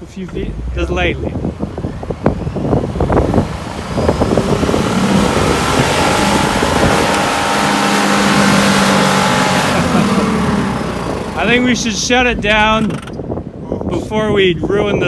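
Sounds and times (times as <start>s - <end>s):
car engine revving hard: 0.0s - 13.2s.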